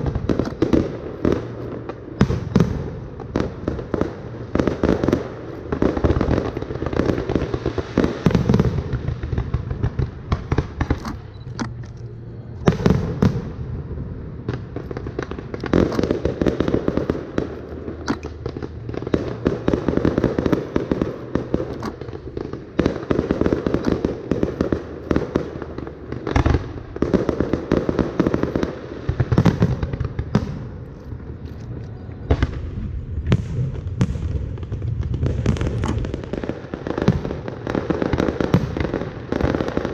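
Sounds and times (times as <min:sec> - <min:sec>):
fireworks bangs and crackling: 0:00.0 - 0:39.9
loud fireworks booms: 0:00.0 - 0:39.9.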